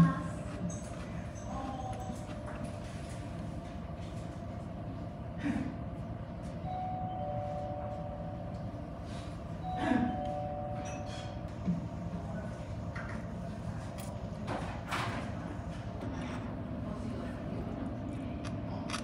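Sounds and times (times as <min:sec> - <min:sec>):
faint held hums: 0:00.0 - 0:19.0.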